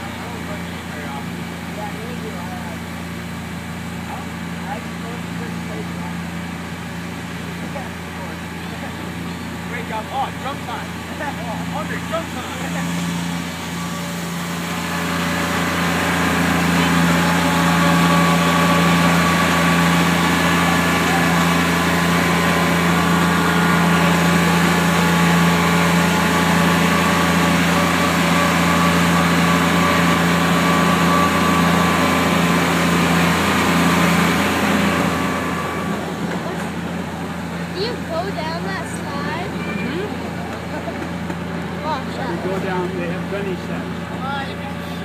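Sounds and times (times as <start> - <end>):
ride train engine humming: 0.0 - 45.0.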